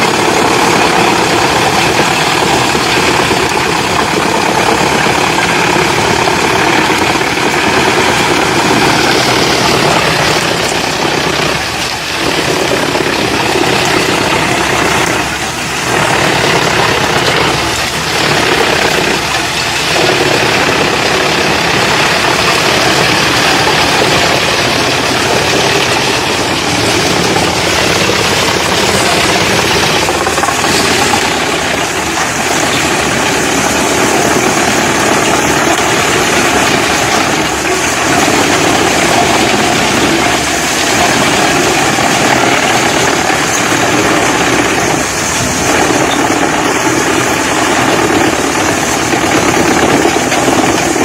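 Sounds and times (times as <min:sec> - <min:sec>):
wood chipper engine running: 0:00.0 - 0:51.0.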